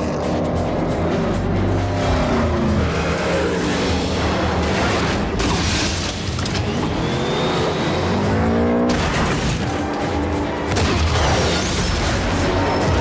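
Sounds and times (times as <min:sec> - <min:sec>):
car engines revving hard: 0:00.0 - 0:13.0
film music score: 0:00.0 - 0:13.0.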